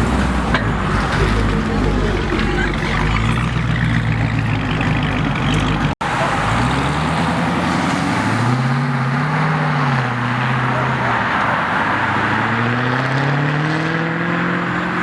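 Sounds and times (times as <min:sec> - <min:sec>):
car engines running: 0:00.0 - 0:15.0
road noise: 0:00.0 - 0:15.0.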